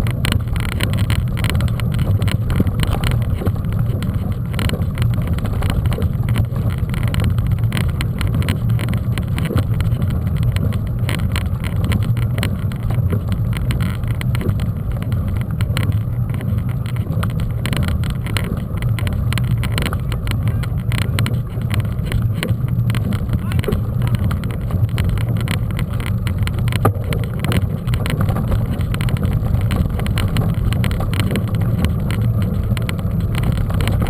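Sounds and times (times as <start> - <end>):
bike rattling and knocking: 0.0 - 34.0
wind rumble on microphone: 0.0 - 34.0.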